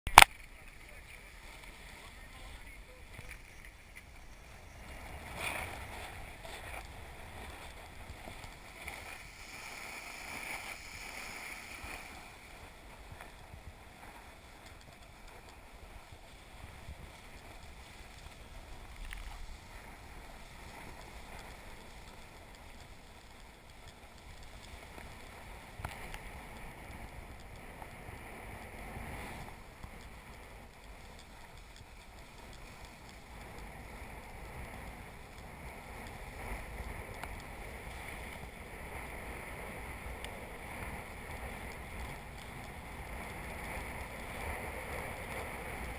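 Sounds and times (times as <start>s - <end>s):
skis scraping on snow: 0.2s - 45.9s.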